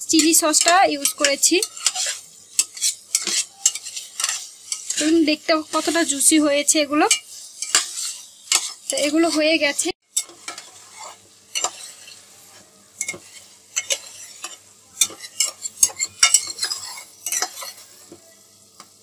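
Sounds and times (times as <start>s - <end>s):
metal spatula scraping frying pan: 0.0s - 18.2s
faint sauce sizzle: 0.0s - 19.0s.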